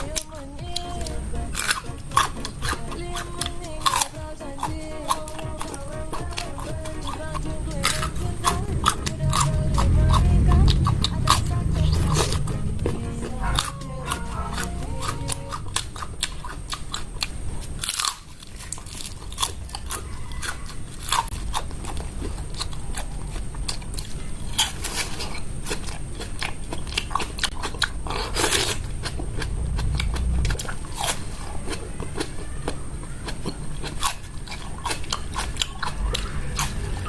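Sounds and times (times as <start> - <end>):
person chewing crunchy food: 0.0 - 37.0.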